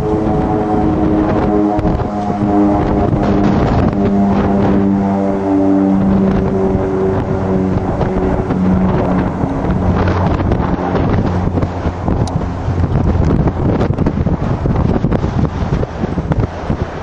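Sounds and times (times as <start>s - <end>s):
propeller aircraft engine drone: 0.0s - 17.0s.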